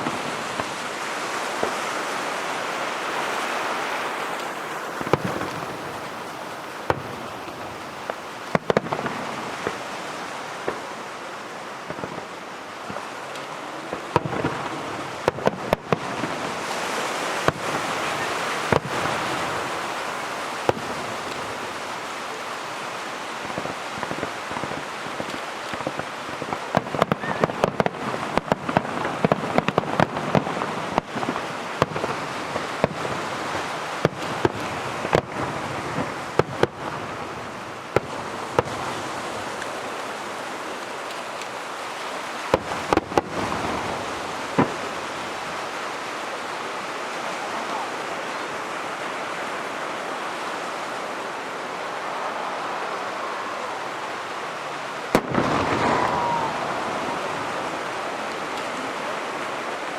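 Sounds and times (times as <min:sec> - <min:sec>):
fireworks bangs and crackling: 0:00.0 - 0:51.0, 0:51.7 - 0:59.9.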